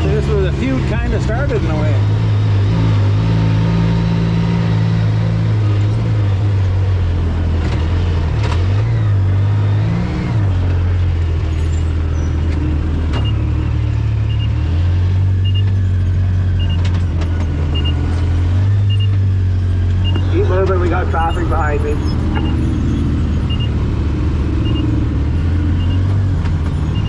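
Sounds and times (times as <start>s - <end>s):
utv engine running: 0.0s - 27.0s.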